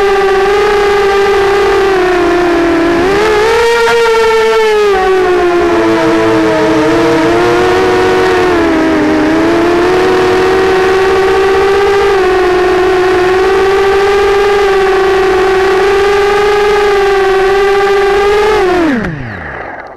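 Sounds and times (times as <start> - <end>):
quadcopter motors whining: 0.0 - 19.9.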